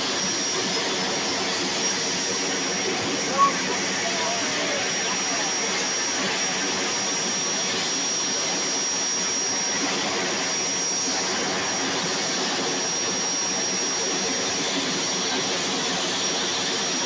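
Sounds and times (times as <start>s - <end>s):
aircraft turbine engine running: 0.0s - 17.0s.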